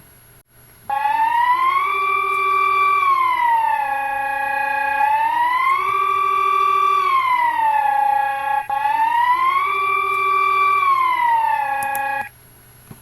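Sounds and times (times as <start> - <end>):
emergency warning siren wailing: 0.9 - 12.3.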